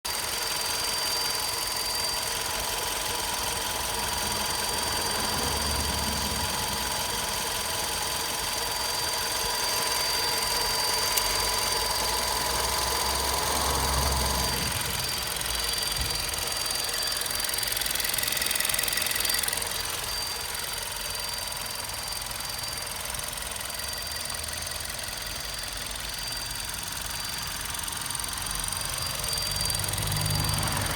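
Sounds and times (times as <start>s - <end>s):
high-pitched whine: 0.3s - 30.9s
car engine running: 2.2s - 23.4s, 24.2s - 30.9s.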